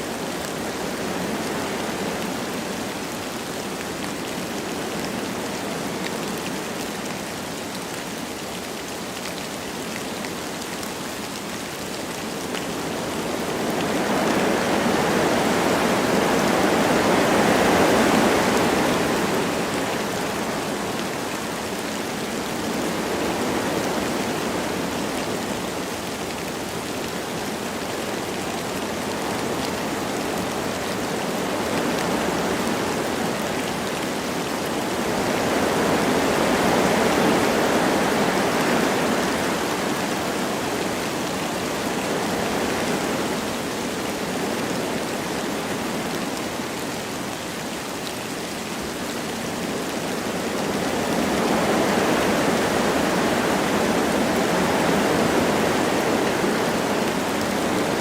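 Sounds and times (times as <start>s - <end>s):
light rain: 0.0s - 58.0s
wind blowing through trees: 0.0s - 58.0s.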